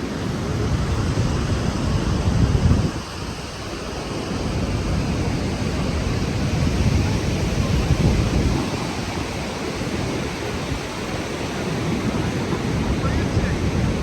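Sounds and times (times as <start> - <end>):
waterfall roaring: 0.0 - 14.0
wind buffeting microphone: 0.0 - 14.0.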